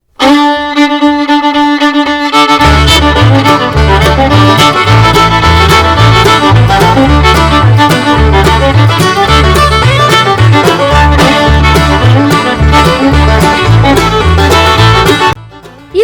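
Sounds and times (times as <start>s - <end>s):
upbeat fiddle music: 0.1s - 16.0s
bass line with steady beat: 2.6s - 16.0s.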